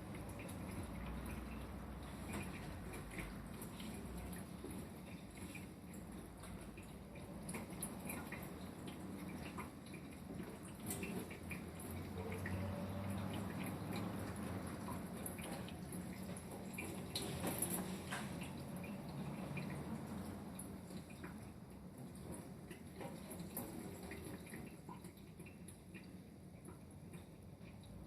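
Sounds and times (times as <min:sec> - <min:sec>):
tap water running into sink: 0:00.0 - 0:28.0
water drips and splashes: 0:00.0 - 0:28.0.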